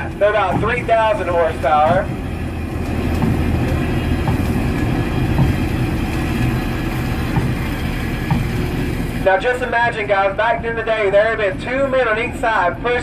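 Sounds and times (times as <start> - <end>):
locomotive engine humming: 0.0 - 13.0.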